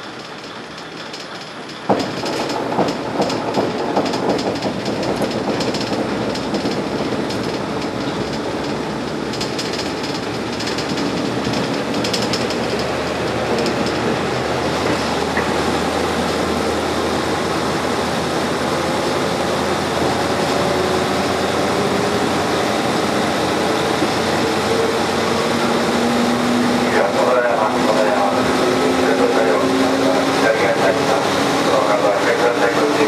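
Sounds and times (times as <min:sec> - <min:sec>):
clickety-clack of rail joints: 0:00.0 - 0:33.0
railcar wheels and engine rumble: 0:00.0 - 0:33.0.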